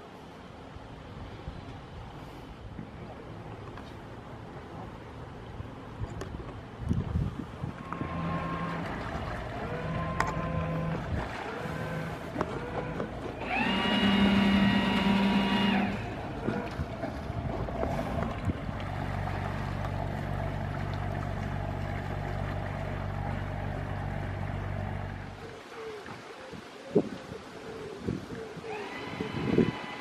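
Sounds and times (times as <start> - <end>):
boat engine humming: 0.0 - 26.2, 28.6 - 30.0.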